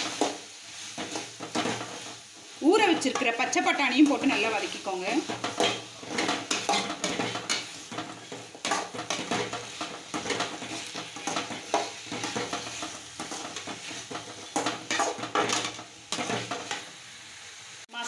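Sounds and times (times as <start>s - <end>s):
metal spatula scraping a metal pan: 0.0s - 16.9s.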